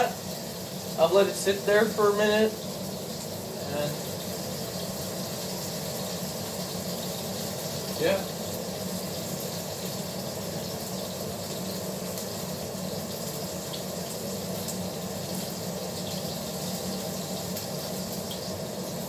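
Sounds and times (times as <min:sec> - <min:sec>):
steak sizzling in a frying pan: 0:00.0 - 0:19.0.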